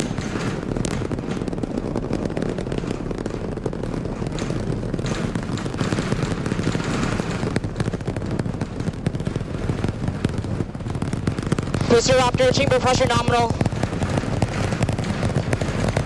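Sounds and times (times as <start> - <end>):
rocket engines rumbling and crackling: 0.0 - 16.0.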